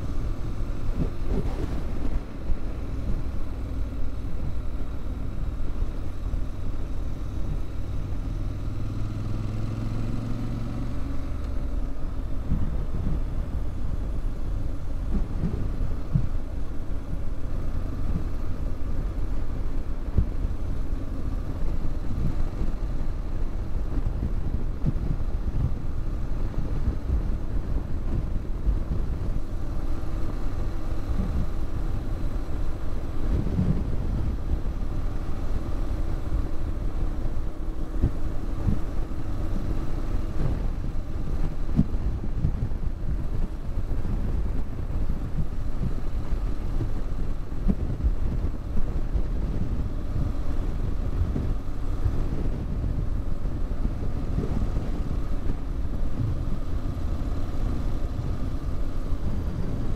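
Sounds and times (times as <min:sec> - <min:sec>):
motorcycle engine cruising: 0:00.0 - 0:59.9
wind rumble on microphone: 0:00.0 - 0:59.9.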